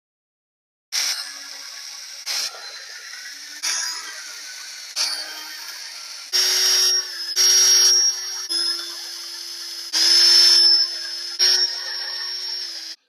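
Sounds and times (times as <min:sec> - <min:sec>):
power drill whining: 0:01.0 - 0:13.0.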